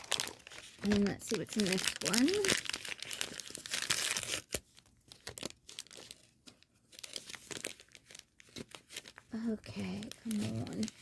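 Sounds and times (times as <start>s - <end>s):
packaging tearing and crinkling: 0.0s - 6.3s, 6.9s - 11.0s.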